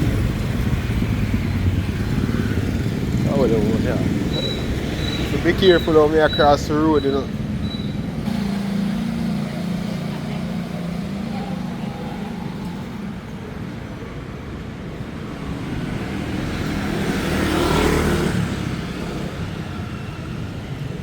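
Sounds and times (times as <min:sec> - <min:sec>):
vehicle passing close: 0:00.0 - 0:13.6, 0:15.0 - 0:21.0
motorbike street traffic: 0:00.0 - 0:21.0.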